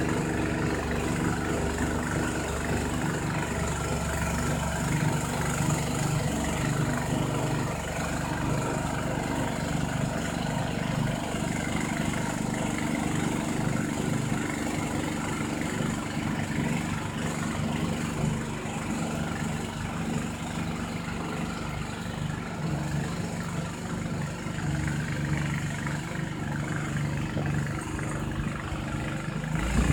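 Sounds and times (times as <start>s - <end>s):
snowblower engine running: 0.0s - 29.9s.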